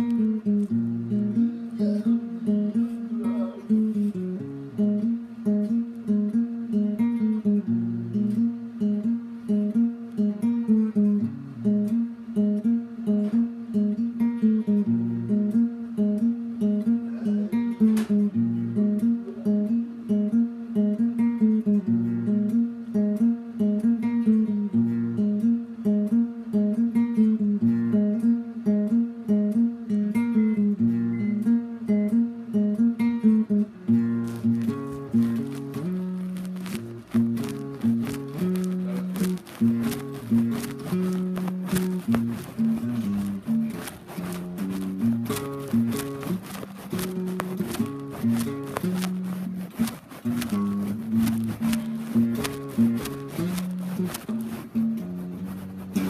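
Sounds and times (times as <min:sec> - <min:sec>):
acoustic guitar picking: 0:00.0 - 0:56.0.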